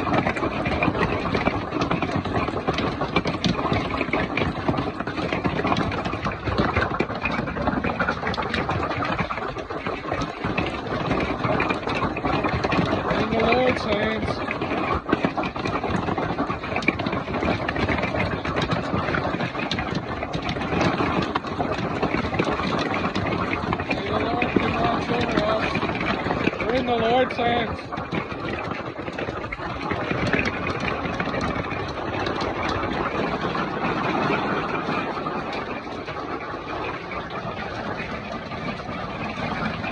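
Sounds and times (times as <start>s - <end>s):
hailstones pounding: 0.0s - 39.9s.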